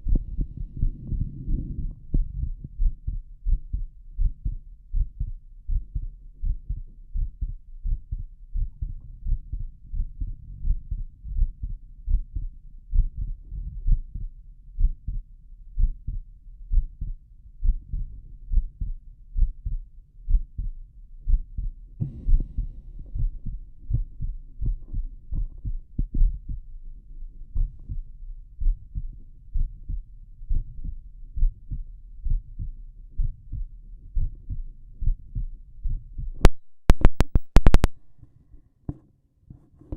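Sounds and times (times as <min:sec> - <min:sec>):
heartbeat through stethoscope: 0:00.0 - 0:38.1.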